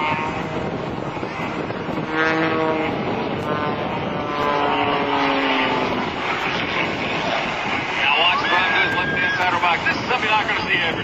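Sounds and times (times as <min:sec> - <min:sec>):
propeller plane droning: 0:00.0 - 0:11.0.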